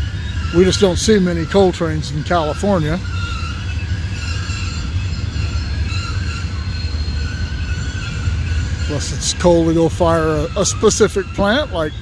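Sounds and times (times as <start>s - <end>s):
high wheel squeal: 0.0s - 12.0s
train cars rumbling past: 0.0s - 12.0s.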